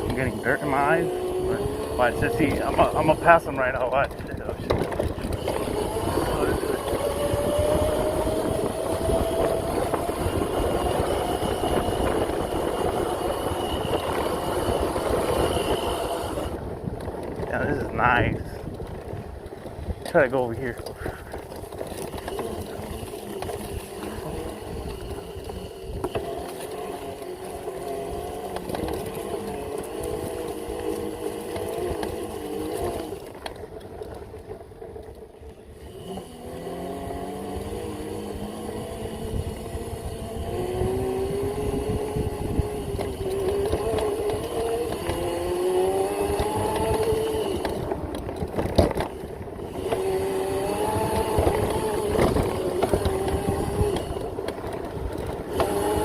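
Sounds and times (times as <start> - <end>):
electric motor whine: 0.0 - 56.0
wind rumbling on microphone: 0.0 - 56.0.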